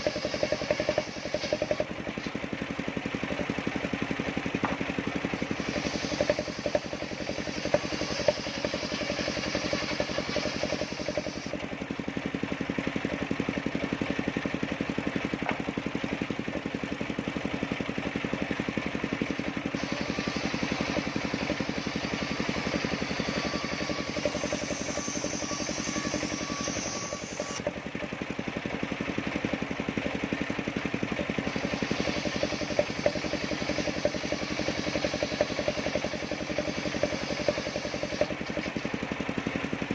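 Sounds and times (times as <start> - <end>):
saw blade whine: 0.0 - 39.9
sawmill motor chugging: 0.0 - 39.9.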